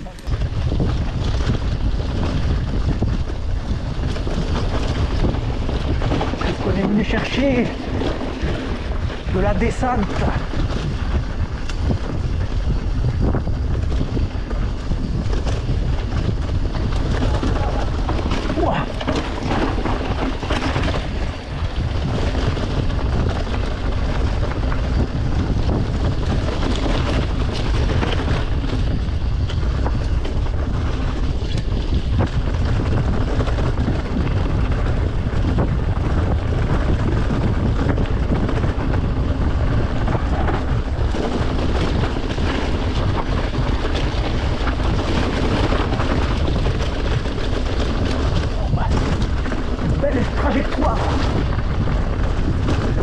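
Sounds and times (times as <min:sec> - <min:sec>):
bike knocks and rattles: 0:00.0 - 0:53.0
wind rushing over microphone: 0:00.0 - 0:53.0.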